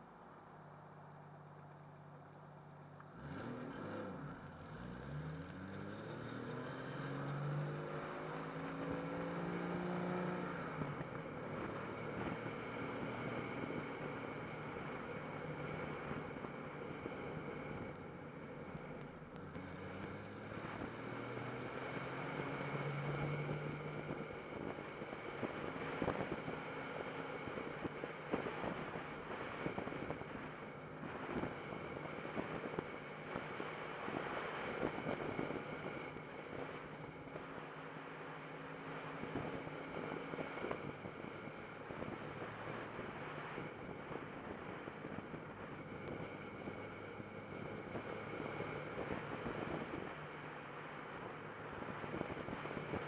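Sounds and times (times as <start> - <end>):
car engine running: 0.5 - 53.0
high-pitched turbo whine: 3.1 - 53.0.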